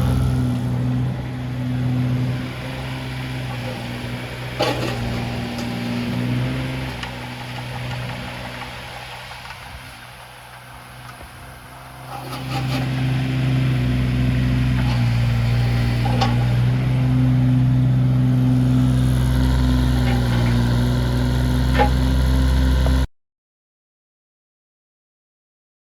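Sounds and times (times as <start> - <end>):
diesel excavator engine running: 0.0 - 23.1.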